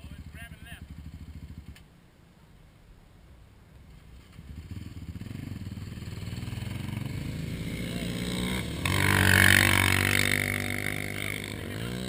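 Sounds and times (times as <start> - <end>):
atv engine revving: 0.0 - 1.8, 3.9 - 12.0.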